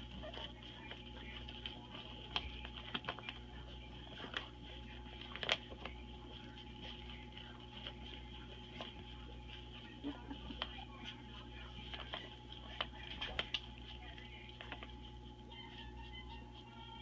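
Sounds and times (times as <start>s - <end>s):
faint steady hum: 0.0s - 17.0s
puppies suckling: 0.0s - 17.0s.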